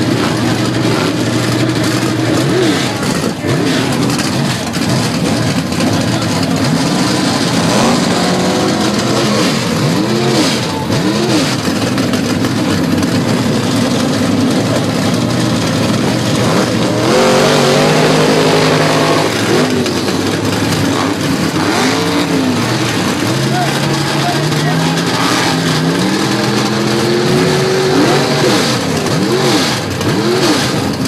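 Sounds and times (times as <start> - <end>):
hot rod engine revving: 0.0 - 31.0.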